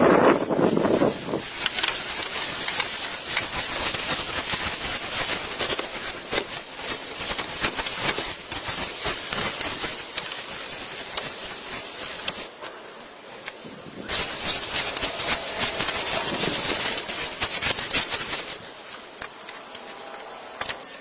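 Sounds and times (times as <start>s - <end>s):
muffled rush: 0.0s - 12.6s, 13.2s - 20.6s
crackles and clicks: 0.0s - 21.0s
steady hissing: 0.0s - 21.0s.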